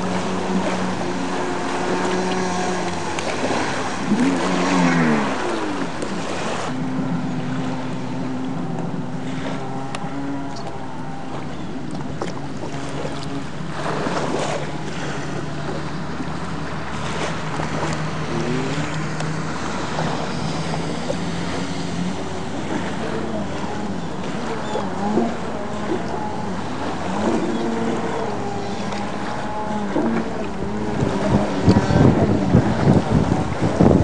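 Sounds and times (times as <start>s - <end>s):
jet ski engine running: 0.0s - 34.0s.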